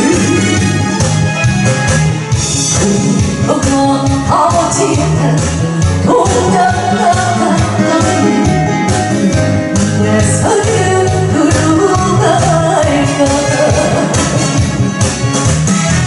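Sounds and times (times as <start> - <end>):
loud music with singing: 0.0 - 16.0.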